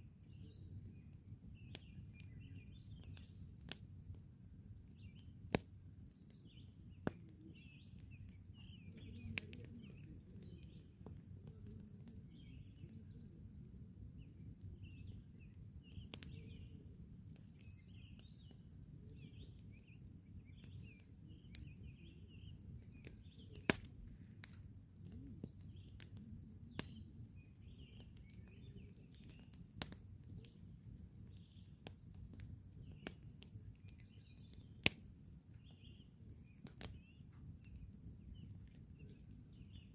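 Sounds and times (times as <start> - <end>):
small birds chirping: 0.1 - 39.9
campfire crackling and popping: 0.2 - 39.9.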